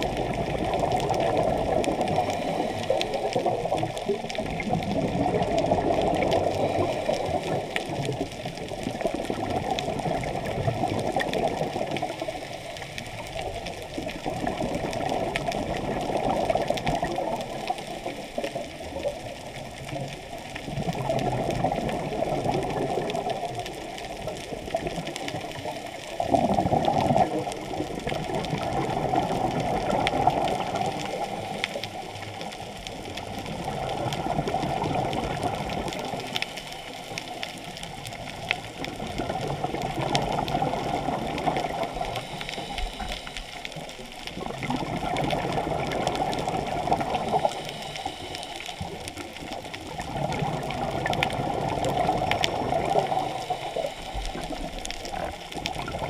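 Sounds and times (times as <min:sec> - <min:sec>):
muffled underwater rushing water: 0:00.0 - 0:56.0.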